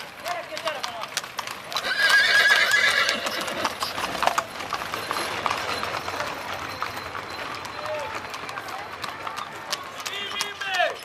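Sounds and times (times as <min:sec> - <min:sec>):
hooves clip-clopping on asphalt: 0:00.0 - 0:11.0.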